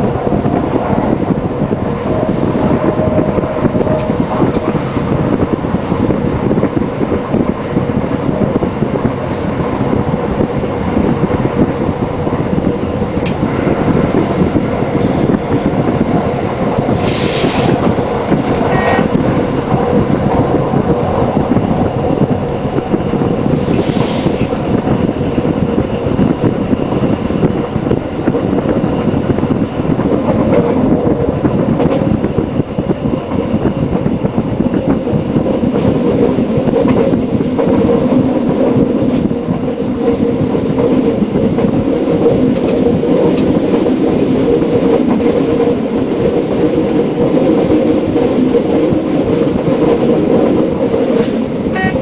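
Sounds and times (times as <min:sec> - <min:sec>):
wheel-on-rail rumble: 0:00.0 - 0:52.0.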